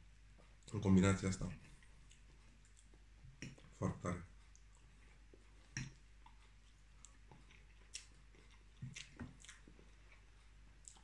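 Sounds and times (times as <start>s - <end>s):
faint chewing: 0.2s - 11.0s.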